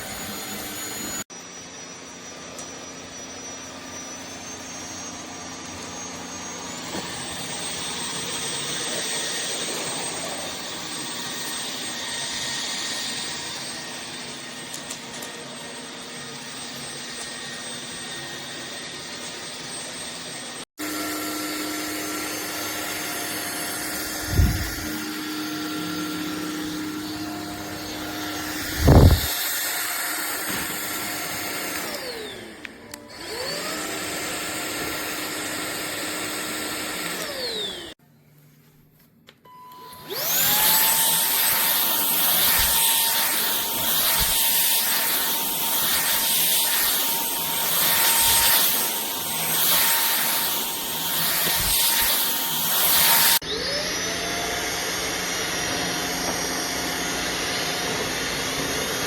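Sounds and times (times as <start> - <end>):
vacuum motor whine: 0.0 - 38.0, 39.5 - 59.0.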